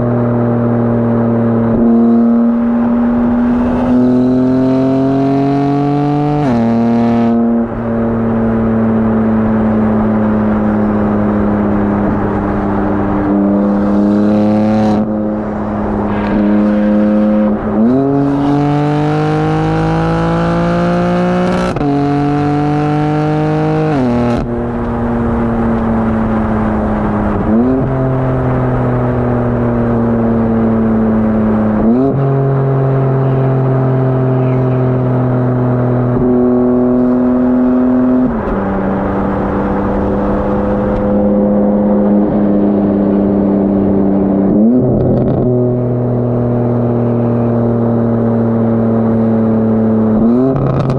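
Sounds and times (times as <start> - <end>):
car exhaust revving: 0.0 - 50.9.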